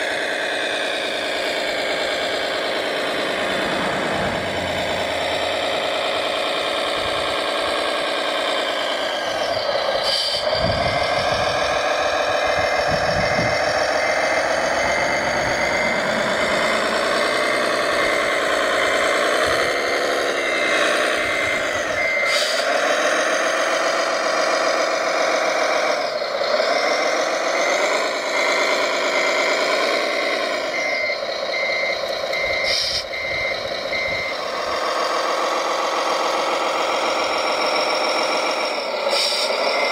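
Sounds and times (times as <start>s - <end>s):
model truck engine: 0.0s - 39.9s
reversing beeper: 0.0s - 39.9s.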